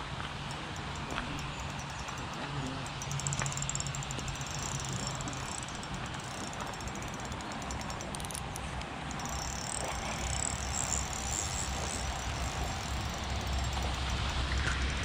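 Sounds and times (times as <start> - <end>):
fishing reel gears ticking: 0.0 - 15.0.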